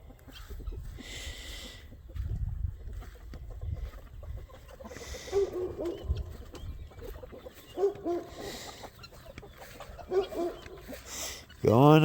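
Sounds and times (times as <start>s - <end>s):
chickens giving soft calls: 0.0s - 12.0s.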